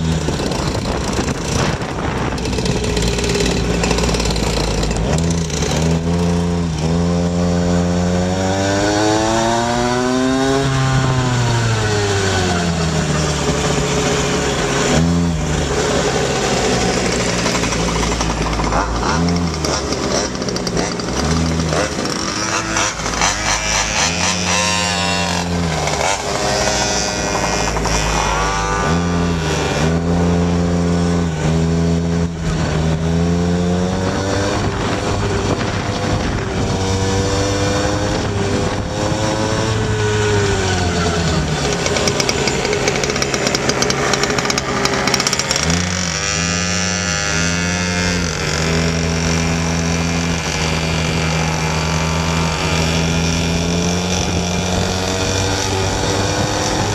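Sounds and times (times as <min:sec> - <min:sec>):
small two-stroke engines revving: 0:00.0 - 0:56.9.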